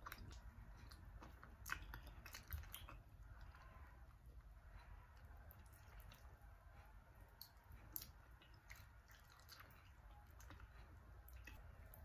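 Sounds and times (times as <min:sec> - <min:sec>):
chewing and sucking mouth sounds: 0:00.0 - 0:04.2, 0:05.1 - 0:06.4, 0:07.3 - 0:12.0.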